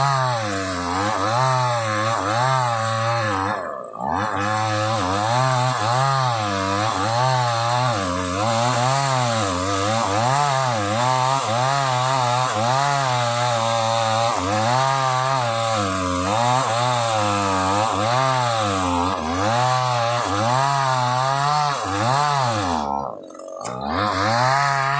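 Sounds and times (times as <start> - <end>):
chainsaw cutting timber: 0.0 - 24.9.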